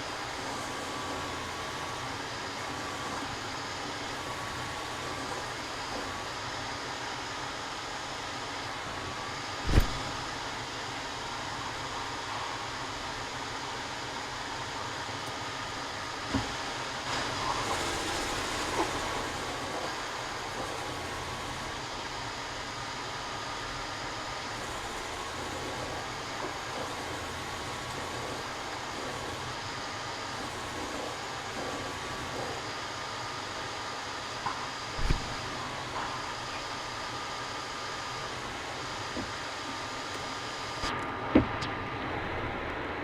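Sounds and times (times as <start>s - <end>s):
woodworking power tool running: 0.0s - 41.2s.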